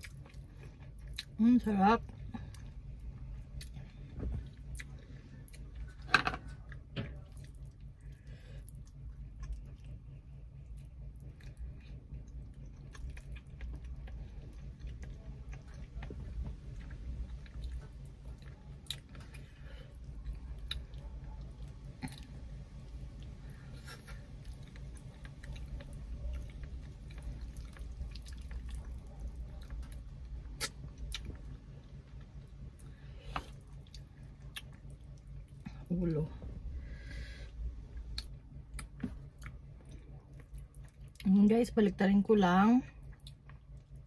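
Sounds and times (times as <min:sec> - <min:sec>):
chewing with wet mouth clicks: 0:00.0 - 0:01.4, 0:02.5 - 0:35.7, 0:38.0 - 0:41.4, 0:43.0 - 0:44.0
steady low hum: 0:00.0 - 0:44.0.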